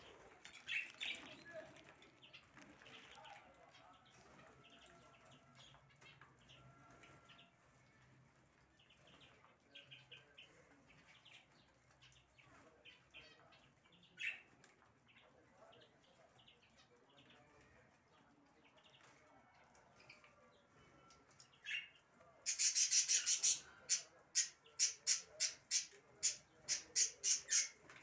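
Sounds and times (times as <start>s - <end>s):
small cage birds chirping: 0.0s - 28.0s.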